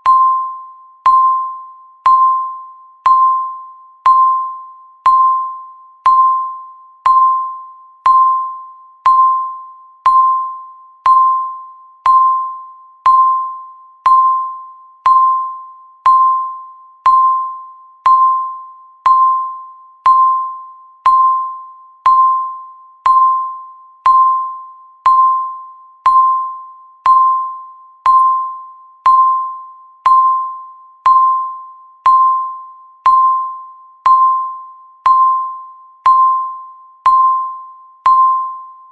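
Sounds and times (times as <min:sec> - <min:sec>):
countdown timer beeps: 0:00.0 - 0:38.9.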